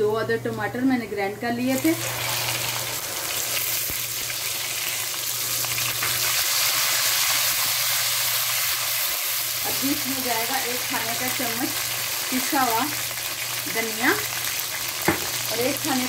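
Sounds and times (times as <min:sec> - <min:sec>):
tomatoes sizzling in oil: 0:01.7 - 0:16.0.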